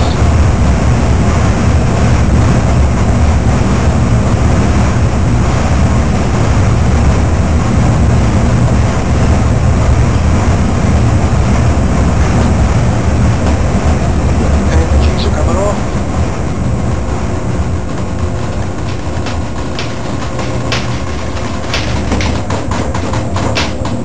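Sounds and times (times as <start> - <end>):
centrifuge low rumble and rushing: 0.0 - 24.0.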